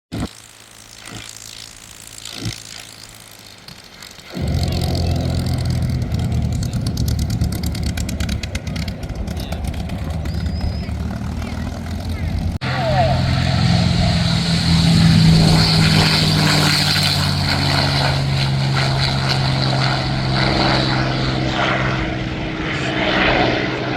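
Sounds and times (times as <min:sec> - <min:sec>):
aircraft engine running loudly: 0:00.2 - 0:23.9.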